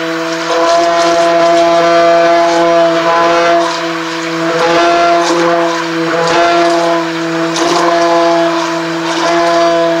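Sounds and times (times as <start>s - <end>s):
stick blender motor humming: 0.0s - 10.0s.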